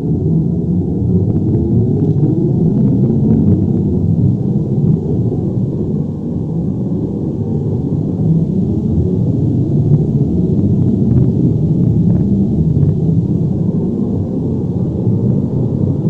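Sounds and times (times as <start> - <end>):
deep continuous rumble: 0.0 - 16.0.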